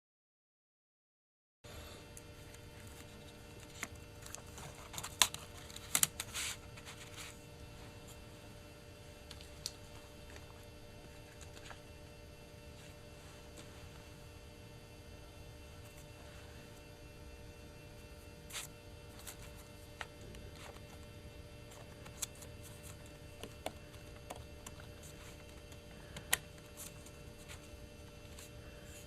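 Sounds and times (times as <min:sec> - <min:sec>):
faint hum: 0:01.6 - 0:29.0.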